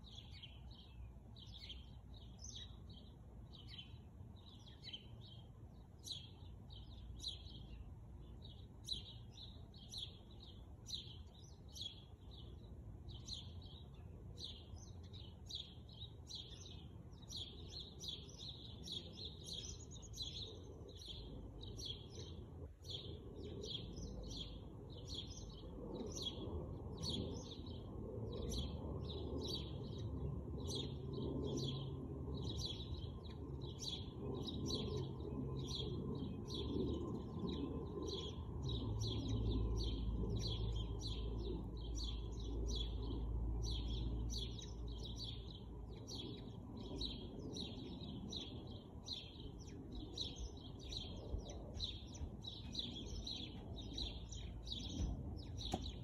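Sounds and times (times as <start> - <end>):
bird chirping: 0.0 - 56.0
low outdoor rumble: 0.0 - 56.0.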